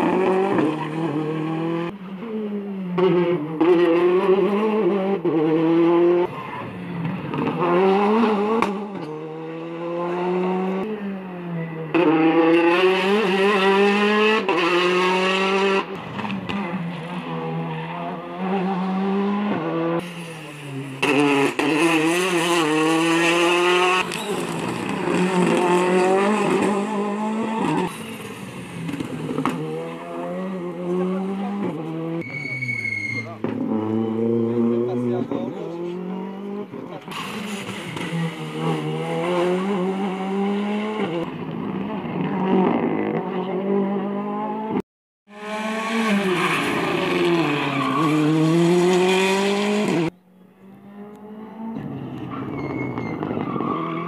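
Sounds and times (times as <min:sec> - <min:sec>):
rally cars accelerating hard: 0:00.0 - 0:32.3, 0:33.3 - 0:54.0.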